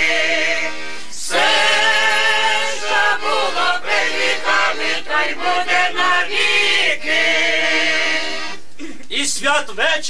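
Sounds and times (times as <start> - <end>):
group of voices singing: 0.0 - 8.6
button accordion: 0.0 - 8.9.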